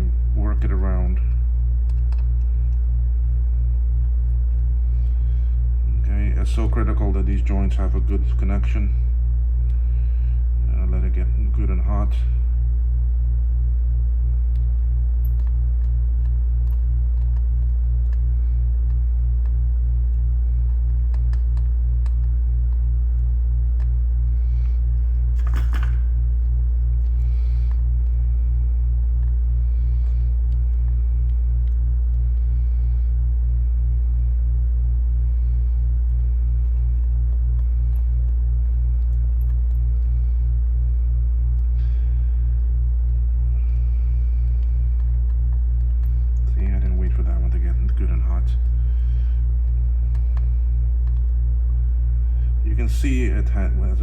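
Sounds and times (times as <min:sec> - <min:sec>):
pulsing low hum: 0:00.0 - 0:54.0.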